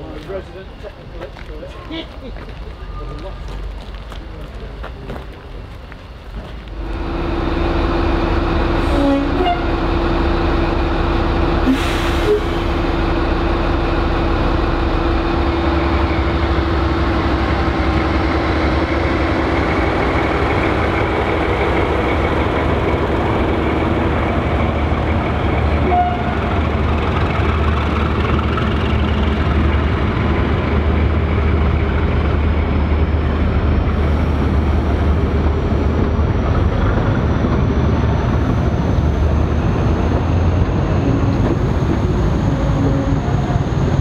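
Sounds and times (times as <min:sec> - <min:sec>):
diesel locomotive engines droning: 0:00.0 - 0:44.0.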